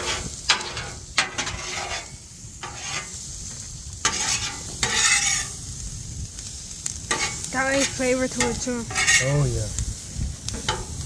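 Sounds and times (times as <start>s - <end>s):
metal spatula scraping griddle: 0.0s - 5.8s, 7.0s - 9.7s, 10.6s - 11.0s
steak and onions sizzling: 0.0s - 11.0s.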